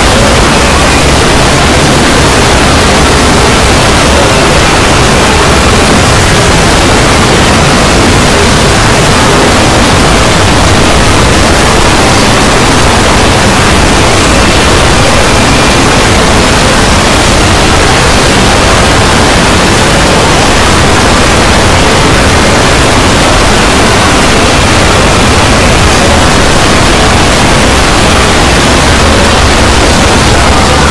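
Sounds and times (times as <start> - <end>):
layered noise hiss: 0.0 - 30.9.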